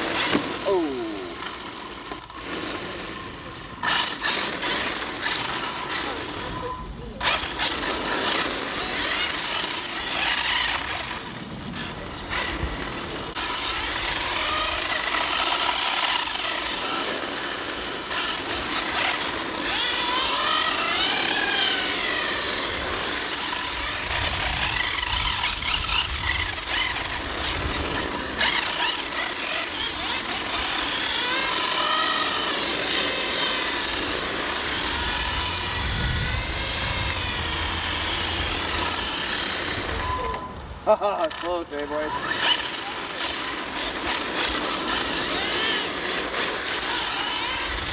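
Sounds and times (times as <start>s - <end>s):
electric motors whining: 0.0s - 47.9s.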